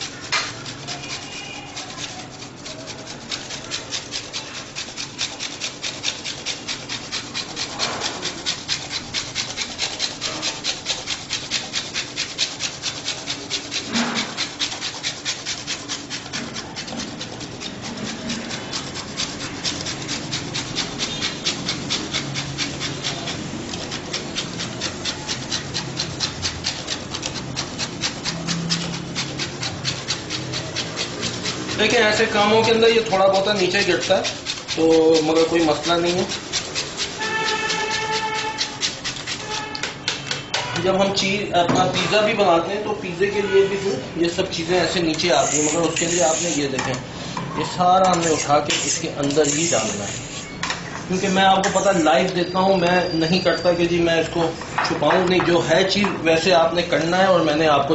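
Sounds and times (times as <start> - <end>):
metal hand grater rasping: 0.0 - 42.6, 44.2 - 46.8, 47.6 - 57.9.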